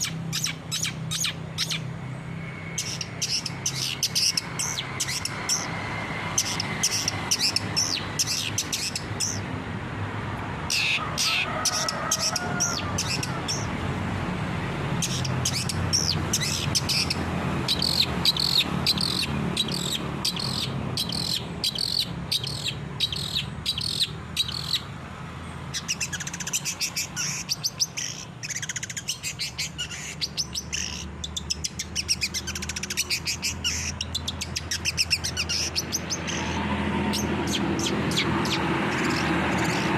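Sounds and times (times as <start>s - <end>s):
bird singing sharp chirps: 0.0s - 9.4s, 15.0s - 24.9s, 25.7s - 39.9s.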